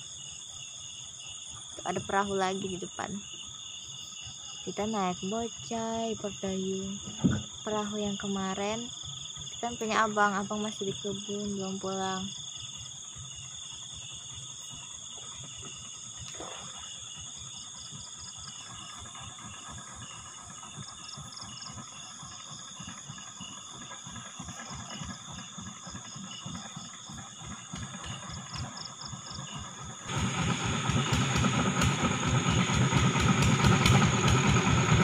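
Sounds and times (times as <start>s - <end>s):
crickets trilling: 0.0s - 30.6s.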